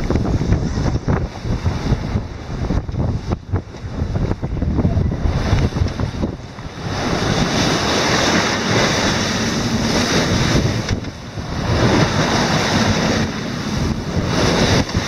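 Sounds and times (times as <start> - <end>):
waves rushing along a hull: 0.0 - 15.0
wind buffeting microphone: 0.0 - 15.0.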